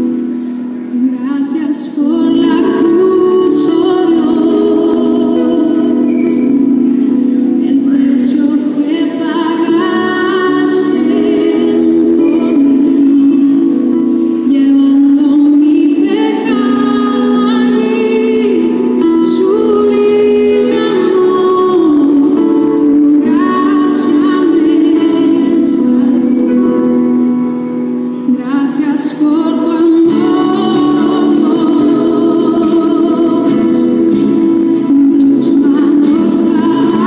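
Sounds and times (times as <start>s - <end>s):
steady held chords: 0.0s - 37.0s
woman singing: 0.9s - 27.2s, 28.2s - 37.0s.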